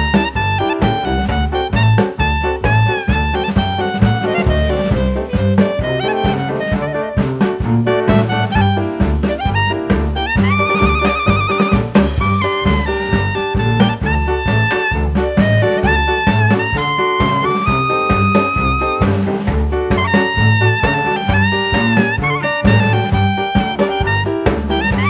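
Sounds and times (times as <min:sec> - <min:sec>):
jazz horn melody with bass and drums: 0:00.0 - 0:25.0.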